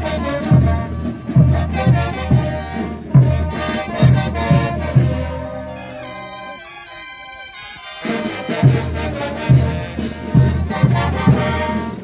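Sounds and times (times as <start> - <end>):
brass band sustained notes: 0.0 - 12.0.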